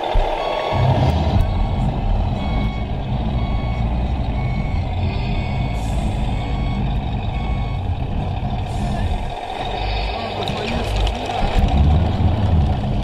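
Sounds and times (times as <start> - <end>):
reversing beeper: 0.0 - 11.1
diesel engine rumble: 0.0 - 13.0.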